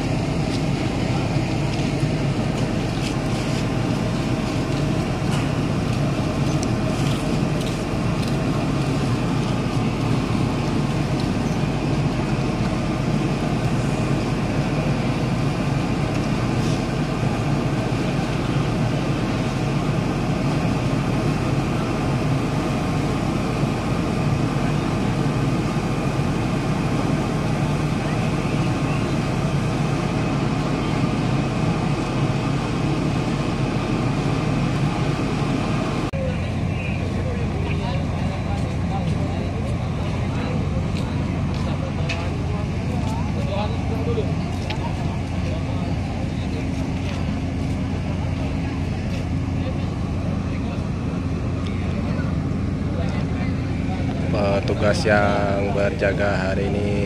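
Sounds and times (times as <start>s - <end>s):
faint voices: 0.0s - 57.0s
ship engine drone: 0.0s - 57.0s.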